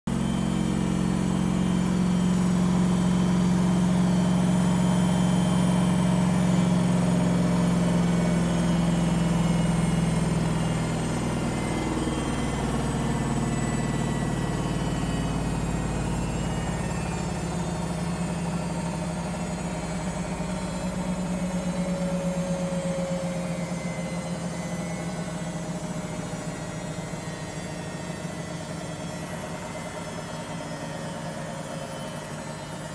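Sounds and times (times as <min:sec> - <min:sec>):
washing machine spinning: 0:00.1 - 0:32.9.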